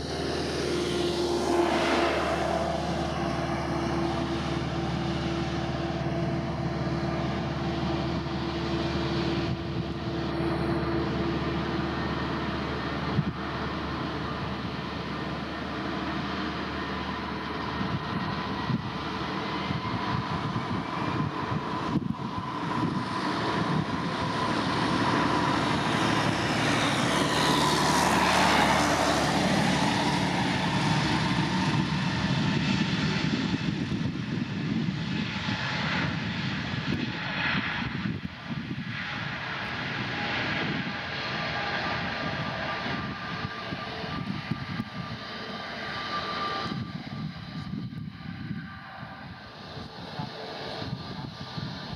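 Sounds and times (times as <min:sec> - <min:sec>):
airplane engines passing: 0:00.0 - 0:51.9
steady engine whine: 0:00.0 - 0:51.9.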